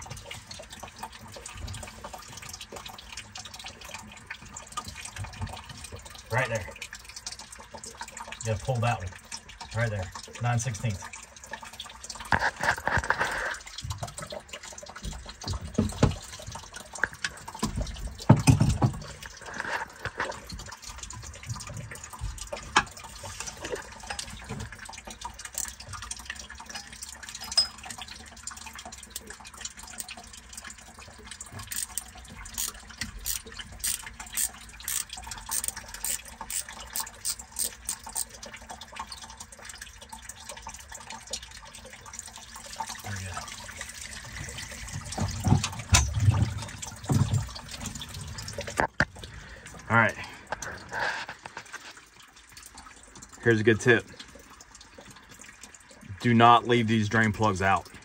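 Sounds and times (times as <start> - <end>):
water draining from engine: 0.0 - 58.0.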